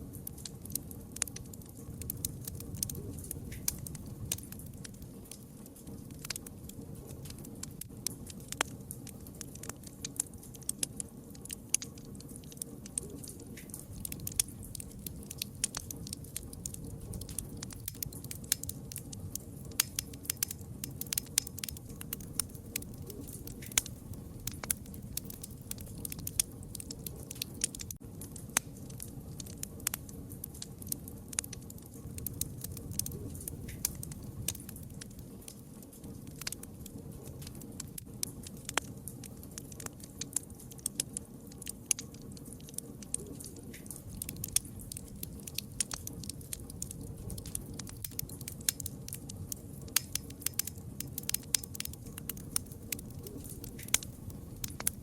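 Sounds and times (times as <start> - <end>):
low rumble of burning fire: 0.0 - 55.0
wood fire crackling: 0.0 - 55.0.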